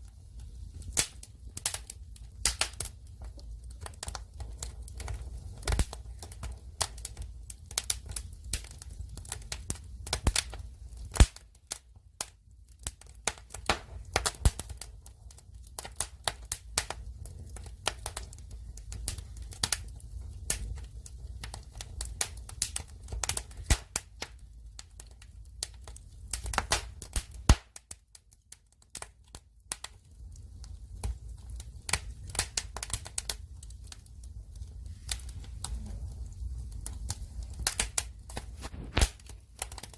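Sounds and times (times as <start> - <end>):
firewood crackling and popping: 0.0 - 39.9
low rumble of flame: 0.0 - 39.9.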